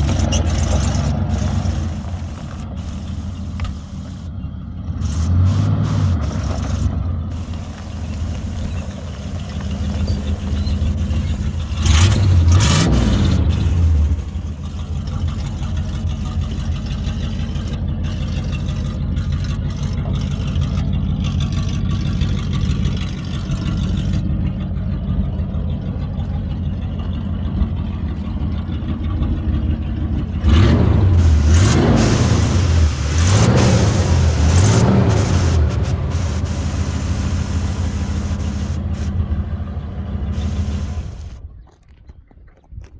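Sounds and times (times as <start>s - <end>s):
pickup truck engine idling and revving: 0.0s - 41.6s.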